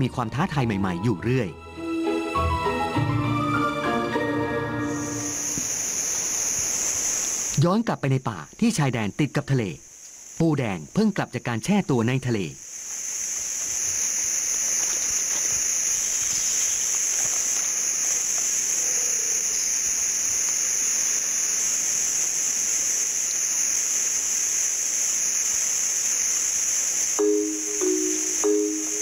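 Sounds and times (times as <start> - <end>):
insects buzzing: 1.5 - 29.0
faint hiss: 3.9 - 29.0.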